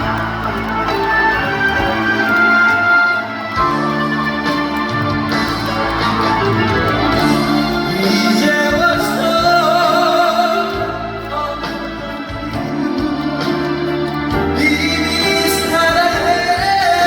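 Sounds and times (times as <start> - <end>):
trot song with band through speakers: 0.0 - 17.0.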